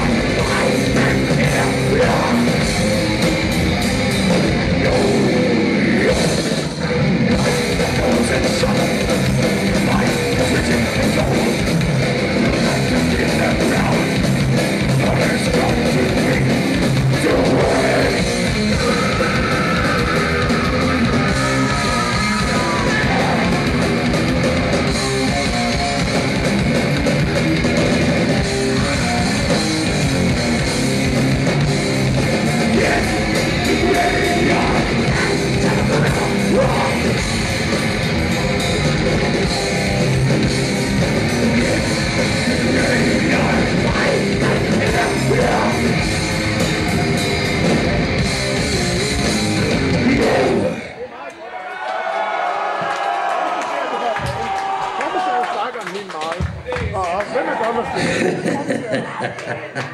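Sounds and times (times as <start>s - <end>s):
drum kit: 0.0s - 50.8s
metal band playing live: 0.0s - 51.0s
distorted electric guitars: 0.0s - 51.1s.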